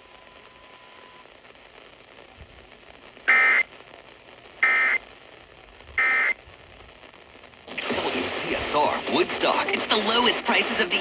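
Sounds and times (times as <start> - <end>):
low radio hiss: 0.0 - 11.0.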